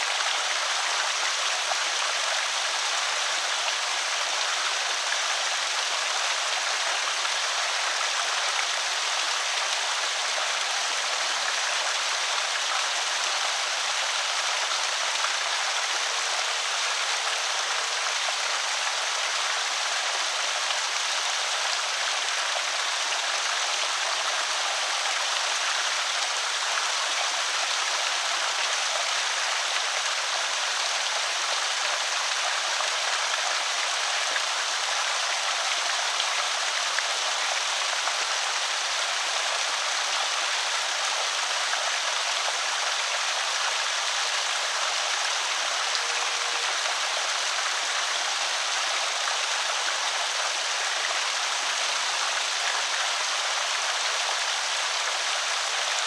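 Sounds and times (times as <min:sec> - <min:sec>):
water rushing over spillway: 0:00.0 - 0:56.0.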